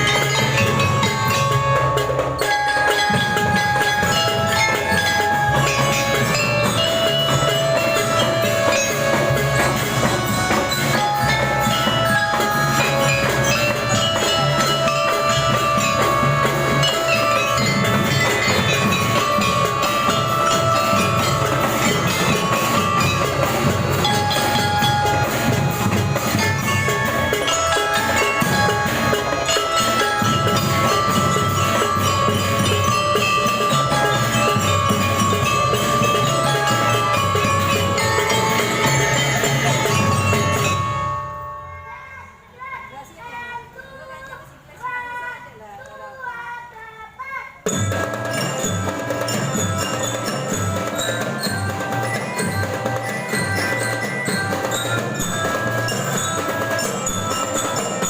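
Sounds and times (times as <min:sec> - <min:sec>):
marching band drums: 0:00.0 - 0:41.2, 0:47.6 - 0:58.0
glockenspiel melody: 0:00.0 - 0:42.5, 0:47.7 - 0:58.0.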